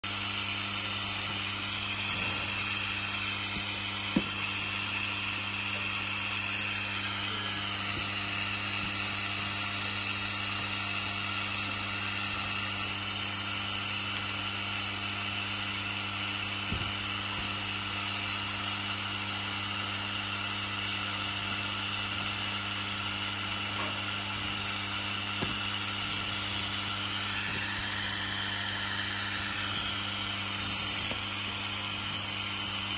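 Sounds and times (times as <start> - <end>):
cutting machine hum and whine: 0.0 - 32.9.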